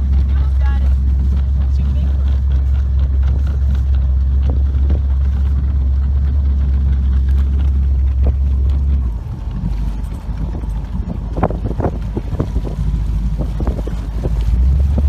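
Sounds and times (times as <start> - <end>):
motorboat motor rumbling: 0.0 - 15.0
wind on microphone: 0.0 - 15.0.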